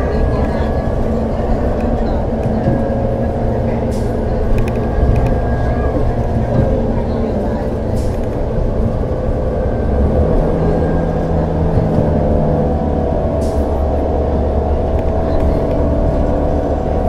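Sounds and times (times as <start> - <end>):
bus engine drone: 0.0 - 17.0
engine whine: 0.0 - 17.0.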